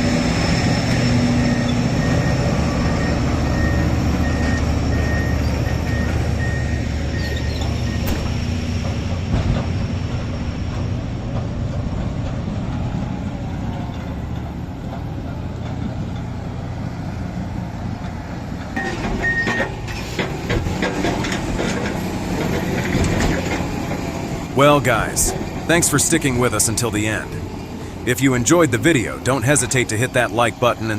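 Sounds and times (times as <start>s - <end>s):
diesel machinery drone: 0.0s - 30.9s.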